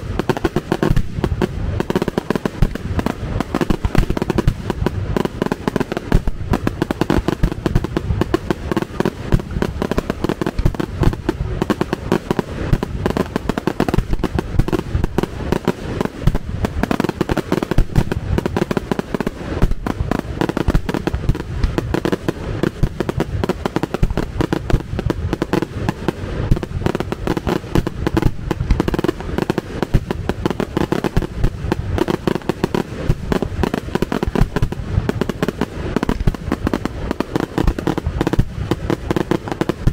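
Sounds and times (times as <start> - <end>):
firework bangs barrage: 0.0 - 39.9.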